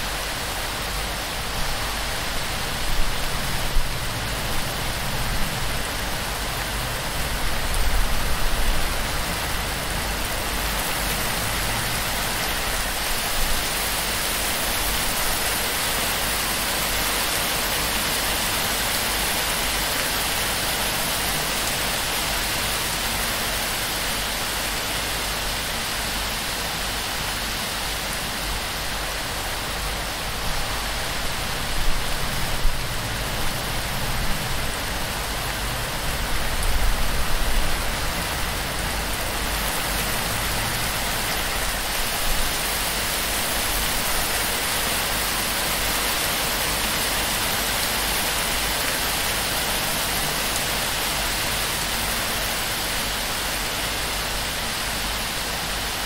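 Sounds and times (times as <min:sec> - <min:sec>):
torrential rain on leaves: 0:00.0 - 0:56.0.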